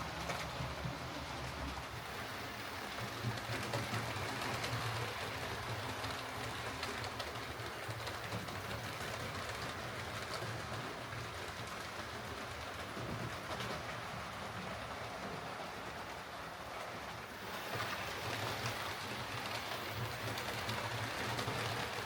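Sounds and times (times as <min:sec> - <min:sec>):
wheels clicking on rails: 0:00.0 - 0:22.0.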